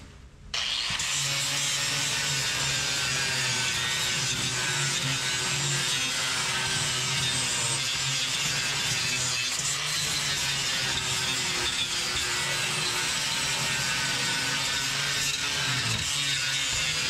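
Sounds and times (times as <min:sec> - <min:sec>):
electric disc sander grinding: 0:00.6 - 0:17.0.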